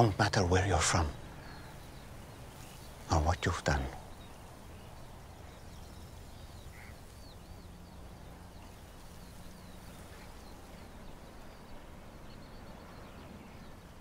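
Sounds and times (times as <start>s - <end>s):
small birds chirping faintly: 0.0s - 14.0s.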